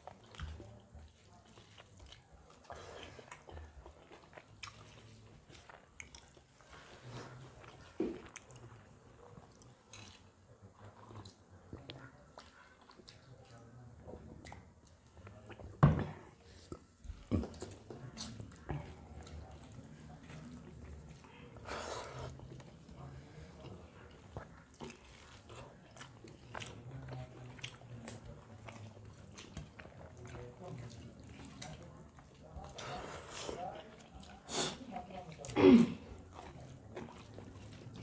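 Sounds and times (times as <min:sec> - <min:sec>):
chewing and mouth smacks: 0:00.0 - 0:15.8, 0:16.6 - 0:21.6, 0:22.3 - 0:38.0.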